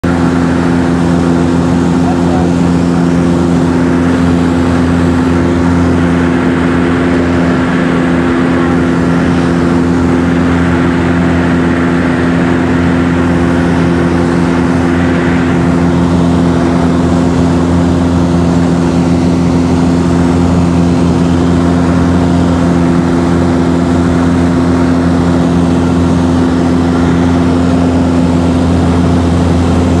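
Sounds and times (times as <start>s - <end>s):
light aircraft engine droning: 0.0s - 30.0s.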